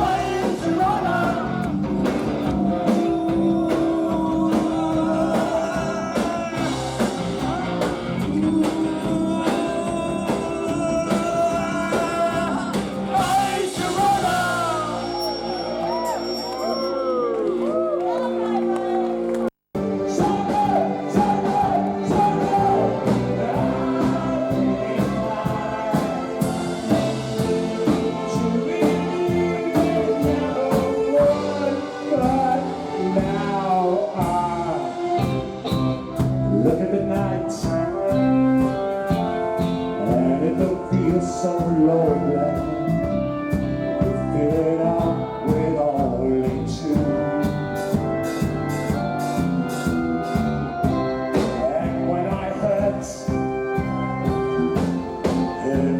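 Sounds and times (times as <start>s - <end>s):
live rock band playing: 0.0s - 16.7s, 19.8s - 55.9s.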